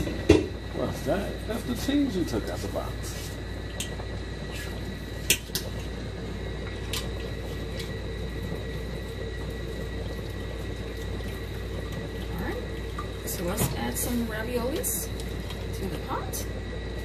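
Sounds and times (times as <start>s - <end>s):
low hum: 0.0s - 17.0s
sauce simmering and bubbling: 0.2s - 17.0s.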